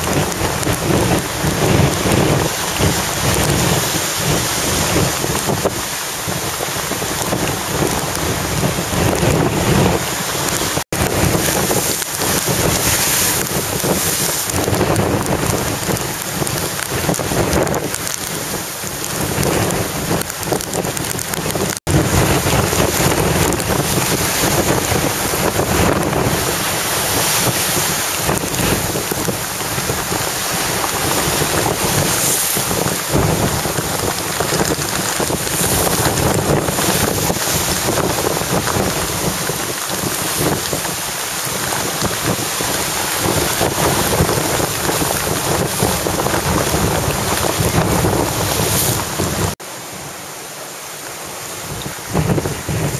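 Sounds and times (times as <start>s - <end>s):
strong wind gusting on microphone: 0.0s - 50.4s, 51.2s - 52.9s
driving rain: 0.0s - 52.9s.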